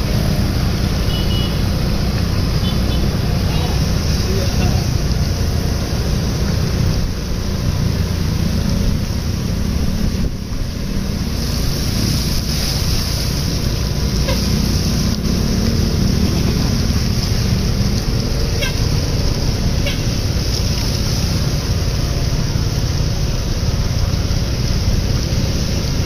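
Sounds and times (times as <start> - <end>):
bus engine rumble: 0.0 - 26.0
motorbike engines: 0.0 - 26.0.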